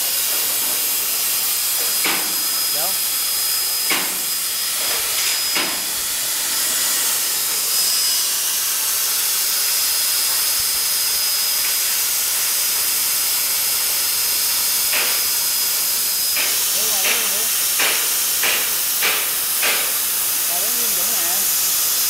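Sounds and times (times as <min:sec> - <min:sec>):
plasma cutting torch hissing: 0:00.0 - 0:22.0.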